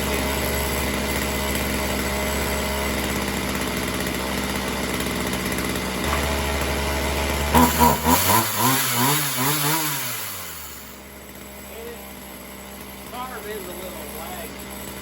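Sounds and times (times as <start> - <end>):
chainsaw engine idling and surging: 0.0 - 15.0.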